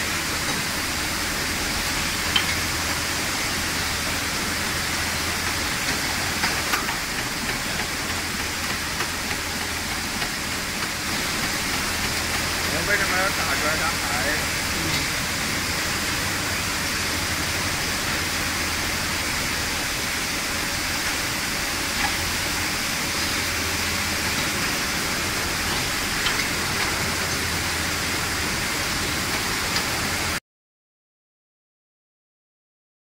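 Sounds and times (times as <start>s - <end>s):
extrusion machine hissing hum: 0.0s - 30.4s.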